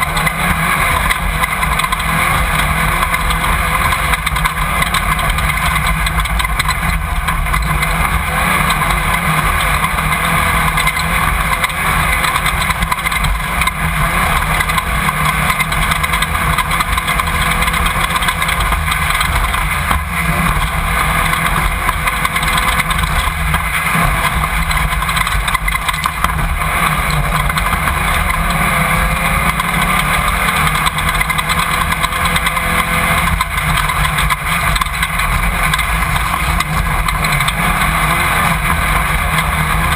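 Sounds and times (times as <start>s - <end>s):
race car engine roar: 0.0s - 39.9s.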